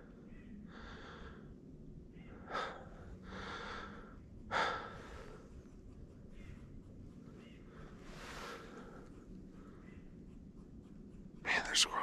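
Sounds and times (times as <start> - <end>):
soft breathing: 0.0 - 12.0.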